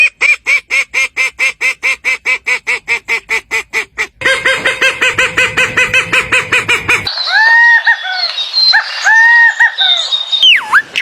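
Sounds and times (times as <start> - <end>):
bird calling rapidly: 0.0 - 11.0.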